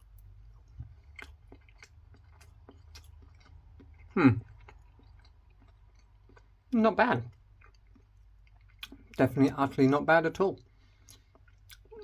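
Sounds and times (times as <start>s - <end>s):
person chewing rice: 0.0s - 9.2s, 10.6s - 12.0s.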